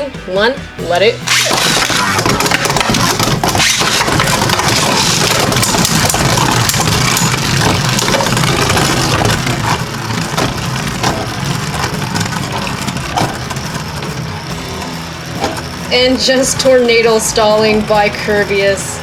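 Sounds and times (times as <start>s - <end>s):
spinning tops clacking together: 1.2s - 17.6s
spinning tops whirring and scraping: 1.2s - 19.0s.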